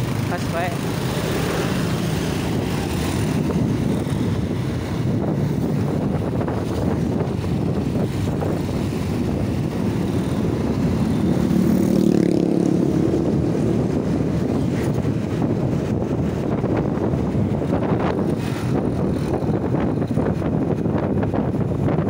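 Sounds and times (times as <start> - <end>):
motorcycle engine and road rumble: 0.0 - 22.0
steady engine hum: 0.0 - 22.0
wind buffeting microphone: 0.0 - 22.0.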